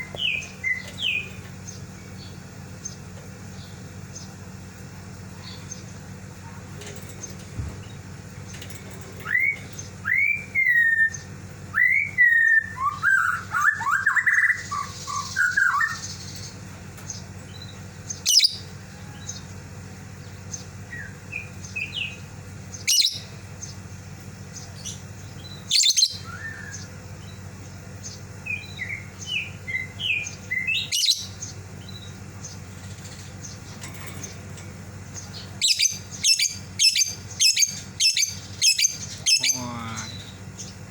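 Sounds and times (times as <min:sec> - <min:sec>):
bird chirping and calling: 0:00.0 - 0:04.4, 0:05.4 - 0:19.4, 0:20.2 - 0:23.9, 0:24.5 - 0:40.9
low hum: 0:00.0 - 0:13.5, 0:14.5 - 0:40.9.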